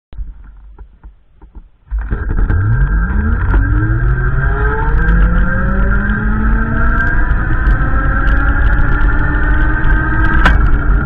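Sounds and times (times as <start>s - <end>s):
heavy low rumble: 0.1s - 11.0s
motor vehicle accelerating: 1.9s - 11.0s.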